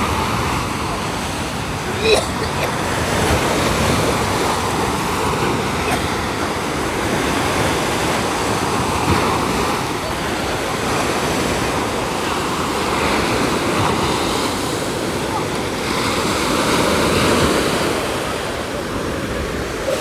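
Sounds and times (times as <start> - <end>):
small waves on sandy beach: 0.0 - 20.0.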